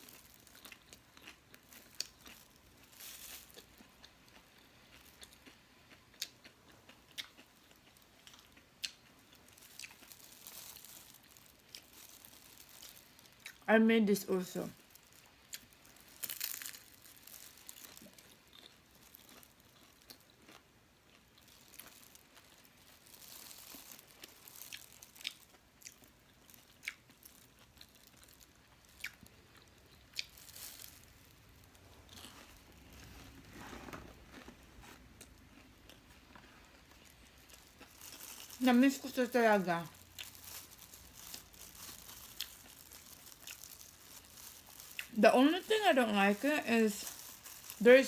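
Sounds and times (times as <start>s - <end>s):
person chewing crunchy food: 0.0s - 13.7s, 14.8s - 38.8s, 39.9s - 45.2s, 47.0s - 47.9s.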